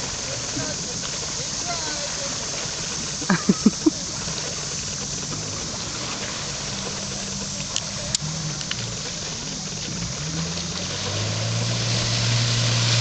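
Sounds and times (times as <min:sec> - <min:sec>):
personal watercraft engine drone: 0:00.0 - 0:13.0
water and wind noise: 0:00.0 - 0:13.0.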